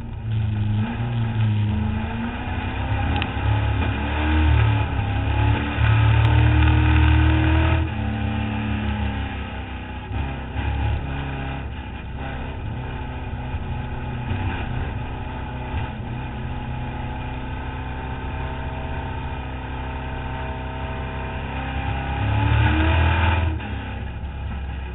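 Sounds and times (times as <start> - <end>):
car engine running under load: 0.0 - 24.9.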